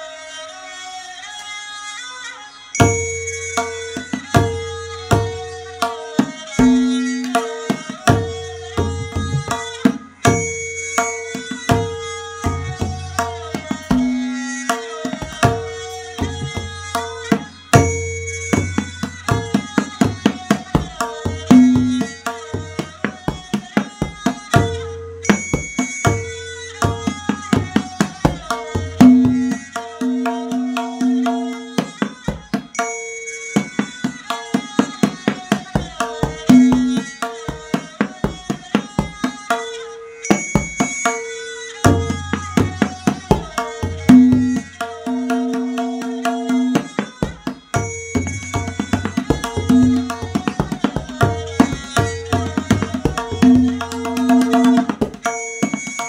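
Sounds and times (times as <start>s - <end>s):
looping melodic accompaniment: 2.8s - 56.0s
tabla playing: 2.8s - 56.0s.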